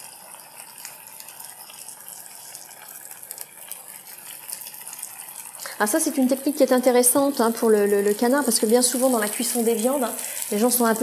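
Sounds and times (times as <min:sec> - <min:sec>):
duck breast sizzling in fat: 0:00.0 - 0:11.0.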